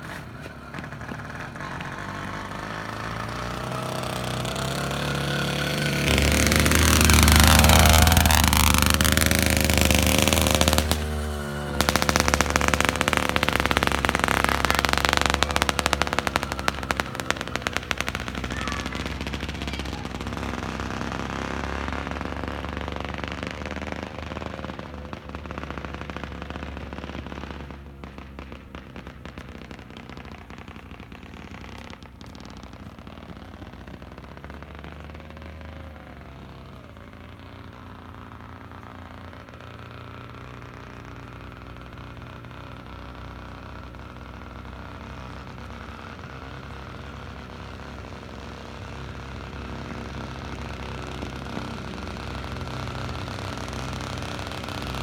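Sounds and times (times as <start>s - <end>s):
exhaust crackle: 0.0s - 55.0s
two-stroke engine passing: 0.0s - 55.0s.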